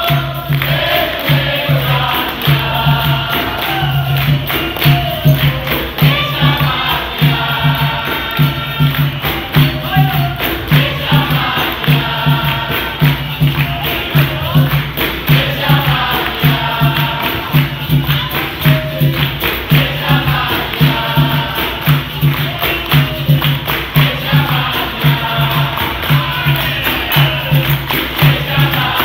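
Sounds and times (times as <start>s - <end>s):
group singing: 0.0s - 29.0s
hand drum beat: 0.0s - 29.0s
tambourine jingling: 0.0s - 29.0s.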